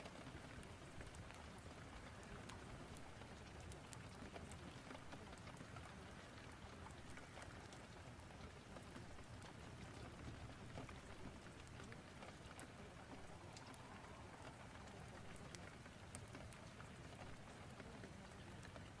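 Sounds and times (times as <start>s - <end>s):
faint steady rain: 0.0s - 19.0s.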